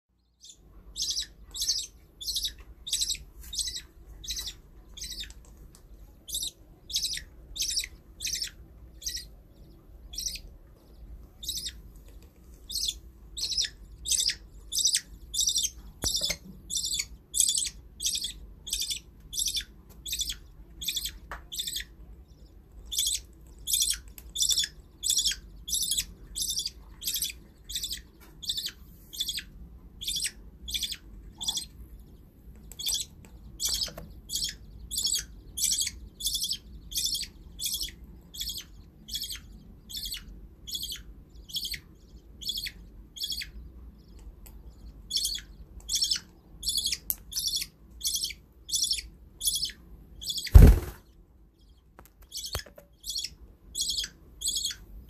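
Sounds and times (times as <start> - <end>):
budgerigar chick chirping: 0.3 - 55.0.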